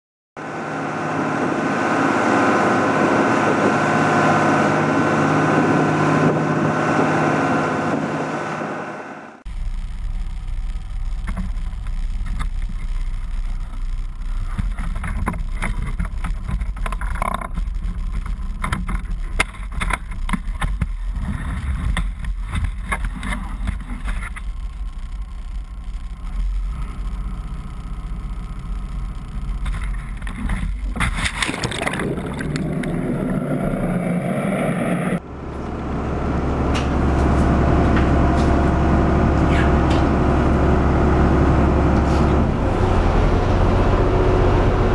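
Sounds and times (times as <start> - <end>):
boat engine running: 0.4 - 44.9.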